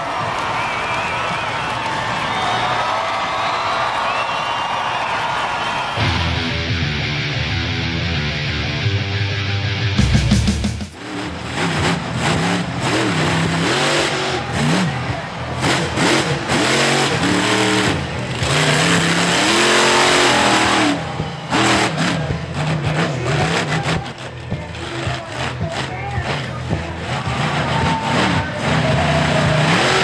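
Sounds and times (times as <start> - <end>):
truck engine revving: 6.0 - 30.0.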